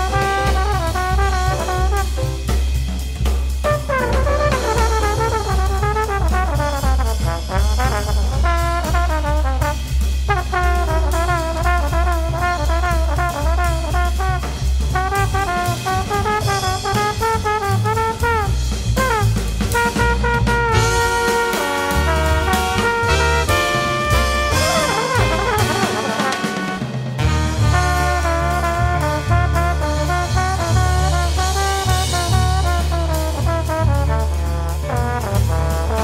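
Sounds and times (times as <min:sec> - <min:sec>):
bass: 0:00.0 - 0:36.0
drums: 0:00.0 - 0:36.0
jazz brass melody: 0:00.0 - 0:36.0.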